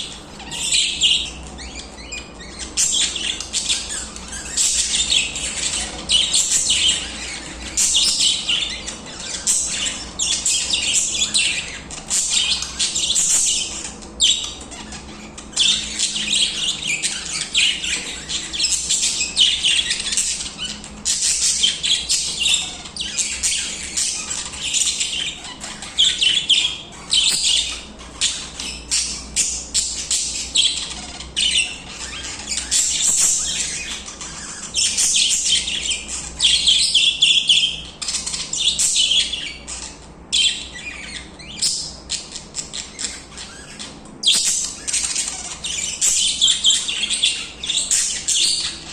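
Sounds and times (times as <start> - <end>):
budgerigars chirping and warbling: 0.0 - 48.9.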